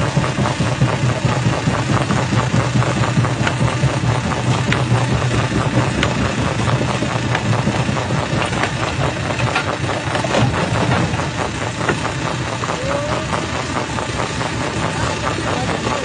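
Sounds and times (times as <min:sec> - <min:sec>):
jaw crusher drone: 0:00.0 - 0:16.0.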